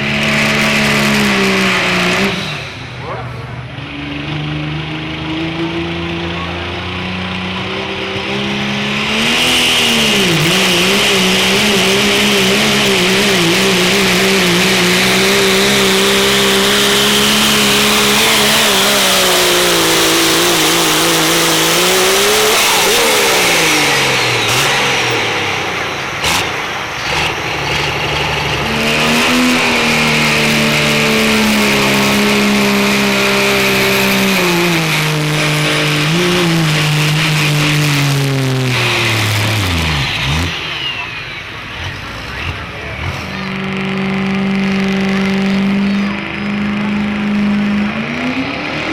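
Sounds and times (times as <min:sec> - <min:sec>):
diesel truck engine at high revs: 0:00.0 - 0:48.9.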